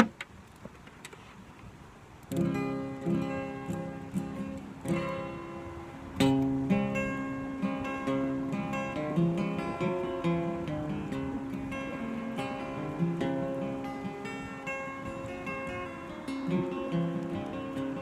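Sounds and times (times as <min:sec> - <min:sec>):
acoustic guitar strumming and picking: 0:02.3 - 0:18.0.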